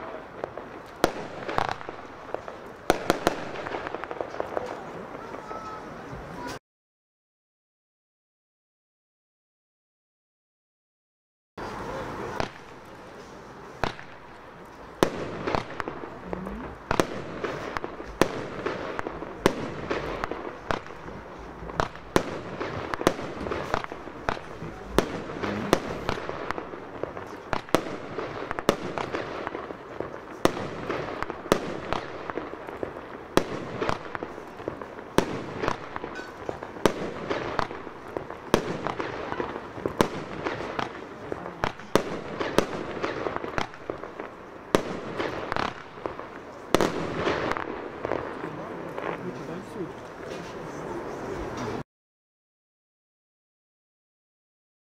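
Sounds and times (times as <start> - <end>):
fireworks bangs: 0.0 - 6.6, 11.6 - 51.8
fireworks rushing noise: 0.0 - 6.6, 11.6 - 51.8.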